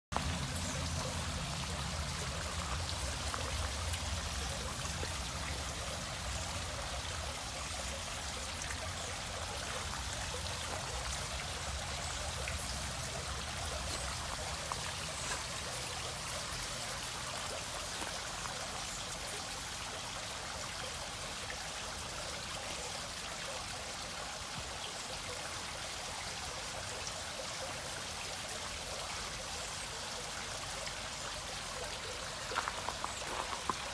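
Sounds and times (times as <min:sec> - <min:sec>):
running water splashing: 0:00.1 - 0:33.9.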